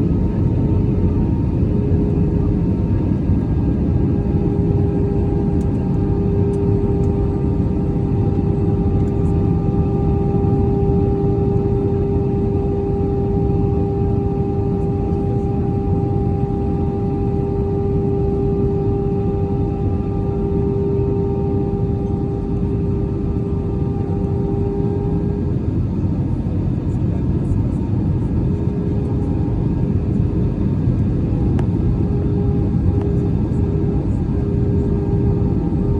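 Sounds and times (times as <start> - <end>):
aircraft cabin engine rush: 0.0 - 35.9
constant hum tone: 0.0 - 35.9.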